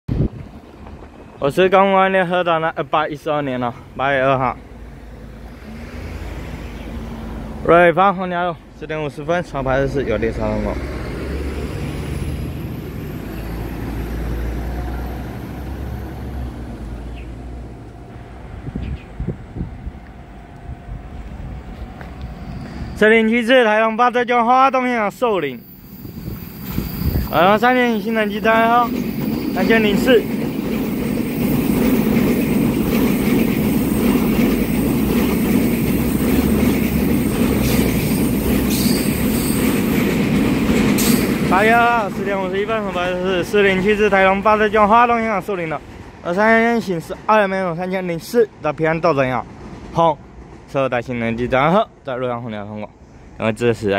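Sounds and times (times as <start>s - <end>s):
train wheels rolling on rails: 0.1s - 3.3s, 9.2s - 23.8s, 25.0s - 51.9s
traffic engine and tyre rumble: 0.1s - 53.9s.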